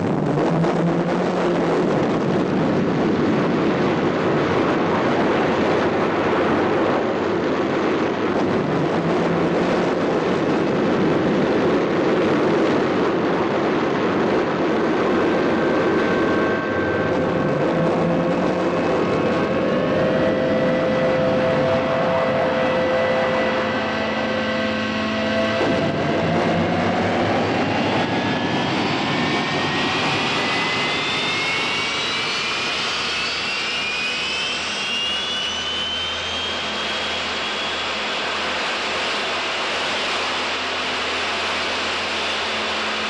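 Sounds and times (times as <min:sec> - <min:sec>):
steady engine tones: 0:00.0 - 0:43.0
turbine rushing thrust with whine: 0:00.0 - 0:43.0.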